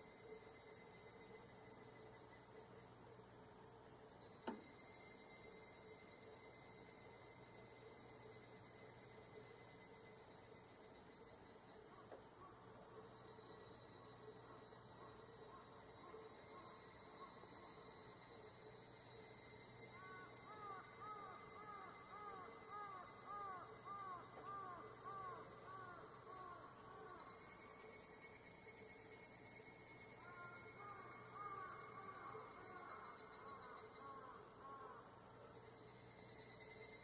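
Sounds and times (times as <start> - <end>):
distant cicadas shrilling: 0.0 - 37.0.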